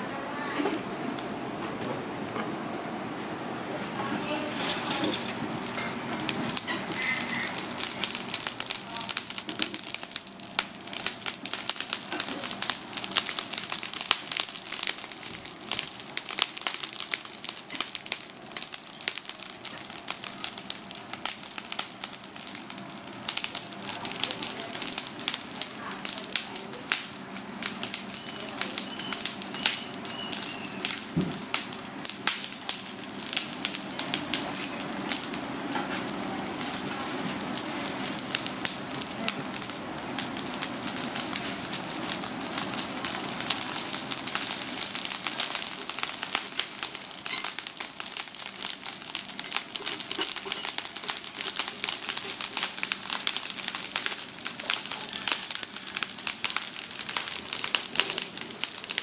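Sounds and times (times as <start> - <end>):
charcoal grill crackling and popping: 0.4 - 59.0.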